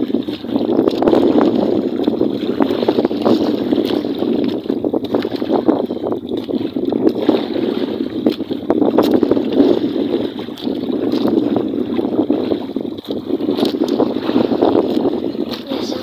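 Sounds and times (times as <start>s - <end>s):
steady rushing noise on boat: 0.0s - 16.0s
wind buffeting microphone: 0.0s - 16.0s.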